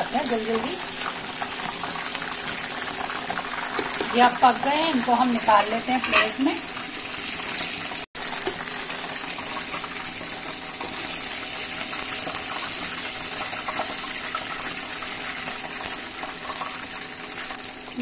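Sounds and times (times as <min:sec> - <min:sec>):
hot oil sizzling in a frying pan: 0:00.0 - 0:18.0.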